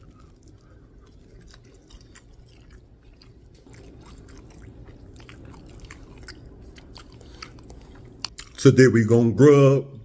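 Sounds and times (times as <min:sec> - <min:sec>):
chewing crunchy food: 0:00.0 - 0:08.7.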